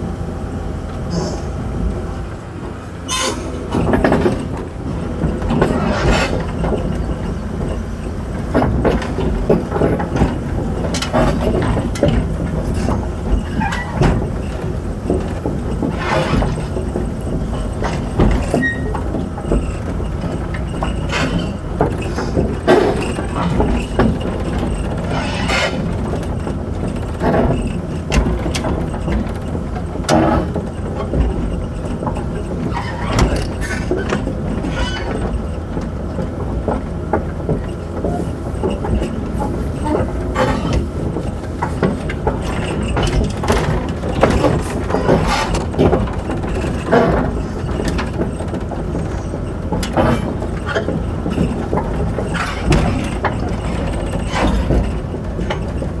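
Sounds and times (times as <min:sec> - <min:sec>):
track chains clanking: 0:01.0 - 0:56.0.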